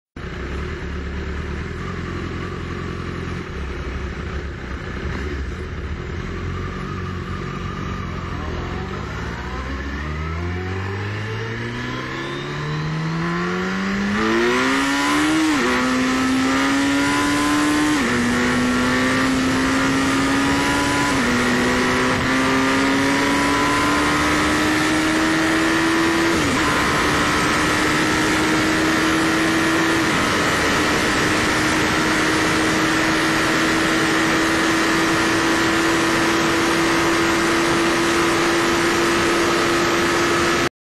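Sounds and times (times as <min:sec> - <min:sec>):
motorcycle engine accelerating: 0:00.2 - 0:40.7.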